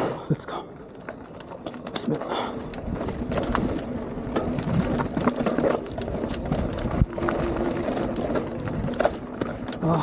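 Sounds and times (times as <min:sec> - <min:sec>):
bike clattering on dirt trail: 0:00.0 - 0:10.0.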